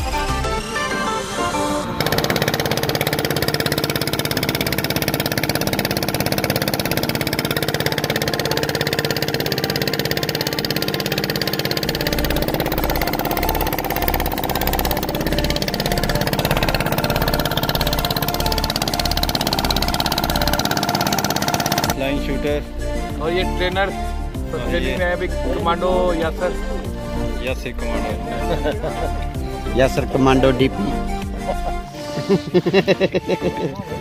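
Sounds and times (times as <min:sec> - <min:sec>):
boat engine running: 0:00.0 - 0:32.1.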